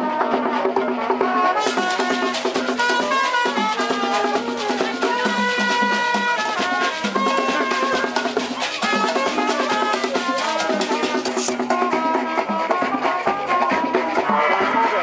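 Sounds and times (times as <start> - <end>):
drums and percussion beat: 0.0 - 15.0
wind instrument notes: 0.0 - 15.0.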